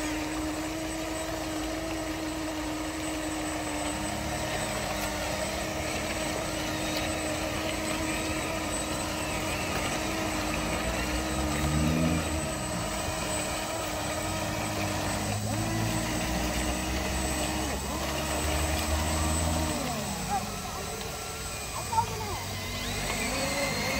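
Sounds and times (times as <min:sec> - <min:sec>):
electric motor whine: 0:00.0 - 0:23.9.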